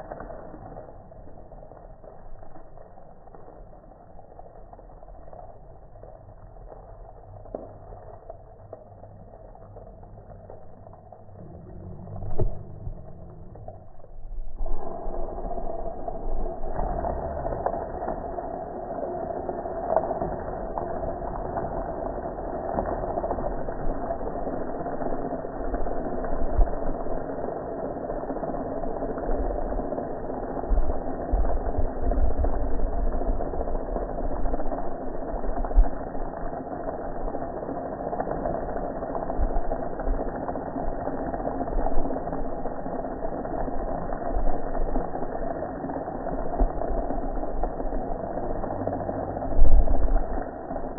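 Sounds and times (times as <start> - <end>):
water spraying and splashing: 0.0 - 50.9.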